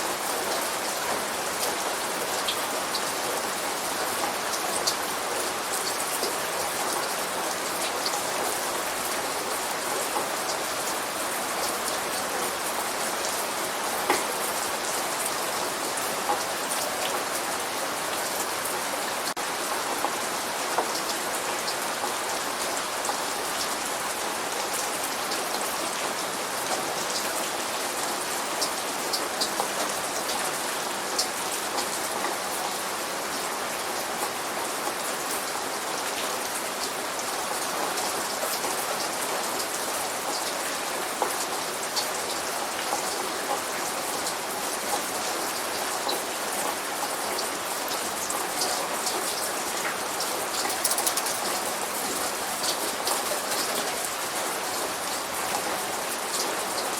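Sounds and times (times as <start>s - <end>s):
light rain with drops ticking: 0.0s - 56.9s.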